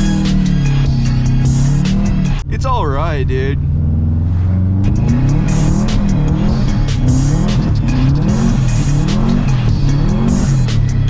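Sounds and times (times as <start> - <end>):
turbocharged car engine revving: 0.0 - 11.0.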